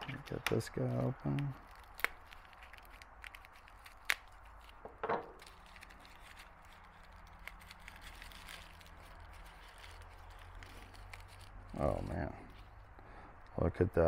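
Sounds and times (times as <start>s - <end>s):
bubble wrap crinkling: 0.0s - 12.9s.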